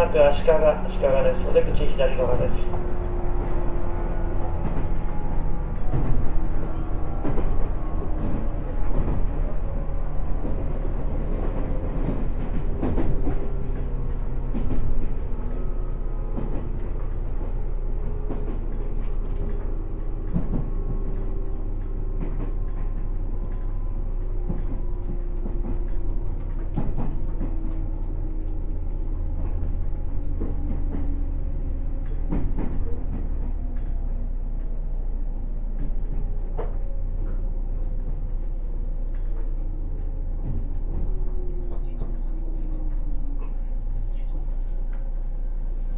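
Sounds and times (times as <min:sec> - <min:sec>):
rail joint clicks: 0:00.0 - 0:45.9
train rumble: 0:00.0 - 0:45.9.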